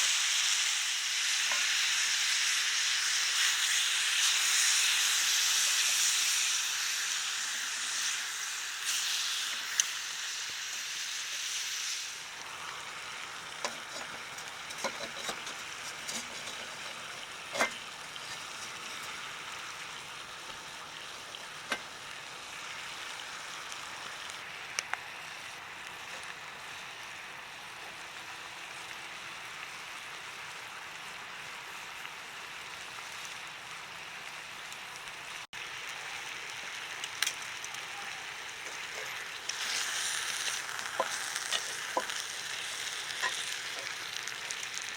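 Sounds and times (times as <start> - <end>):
meat sizzling over a fire: 0.0 - 44.9.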